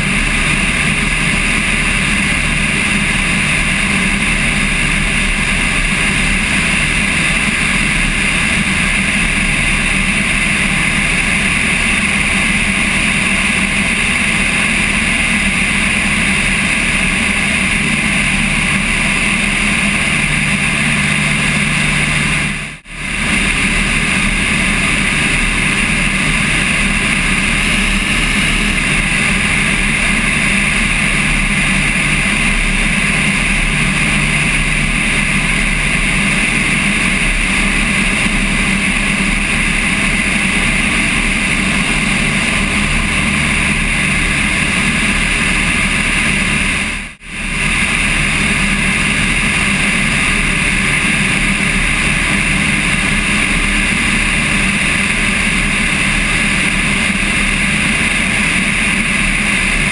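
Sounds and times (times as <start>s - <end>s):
plane engine drone: 0.0s - 59.9s.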